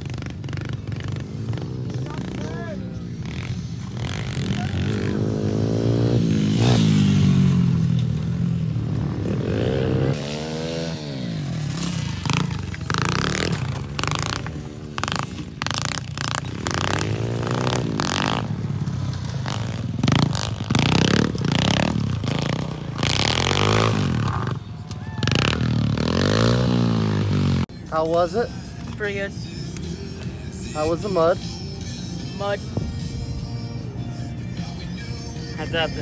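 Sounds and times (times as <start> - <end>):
pit bike engine revving: 0.0 - 36.0.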